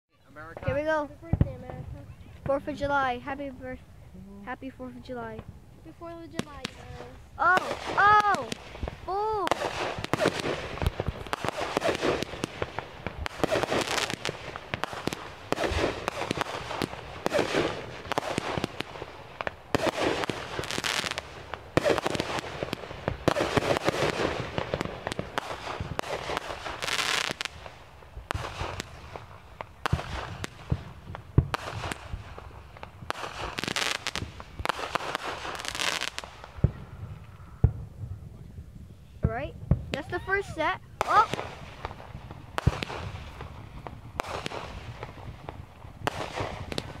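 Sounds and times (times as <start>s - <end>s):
fireworks bangs and crackles: 0.1s - 47.0s.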